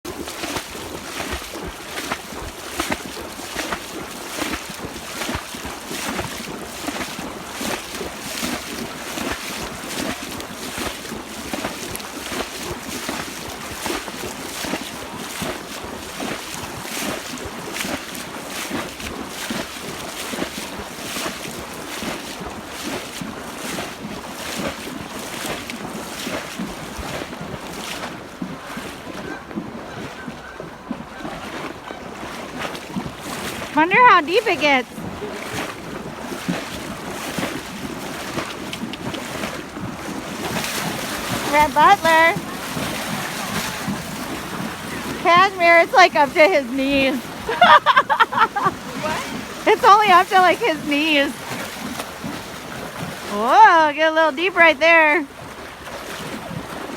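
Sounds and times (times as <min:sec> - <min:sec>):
footsteps splashing through water: 0:00.1 - 0:56.9.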